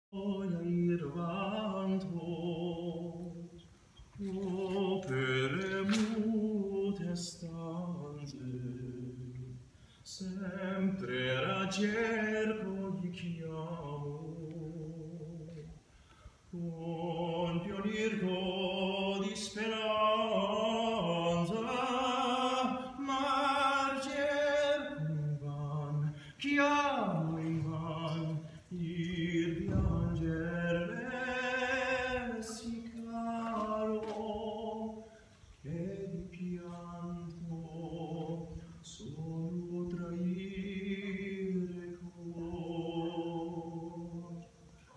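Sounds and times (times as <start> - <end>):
man singing unaccompanied: 0.0 - 44.9.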